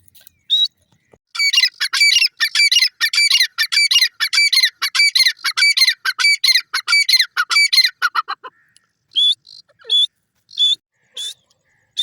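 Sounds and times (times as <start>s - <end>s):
bird calling shrill repeated notes: 0.2s - 12.0s.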